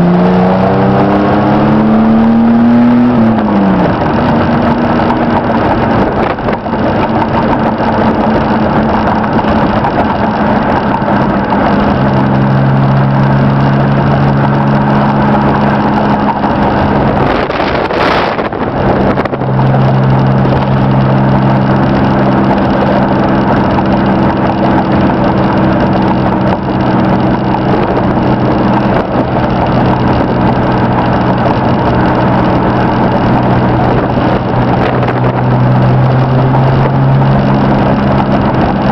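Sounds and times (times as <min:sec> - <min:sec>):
pickup engine at cruising speed: 0:00.0 - 0:38.9
road noise: 0:00.0 - 0:38.9.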